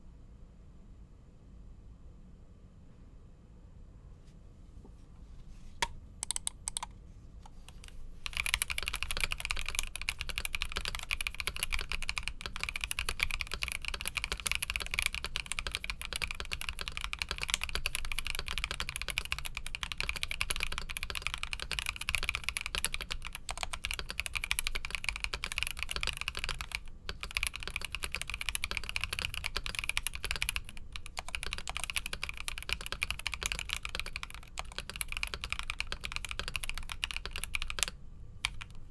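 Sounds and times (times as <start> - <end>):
mechanical keyboard typing: 6.2 - 6.9, 7.5 - 38.9.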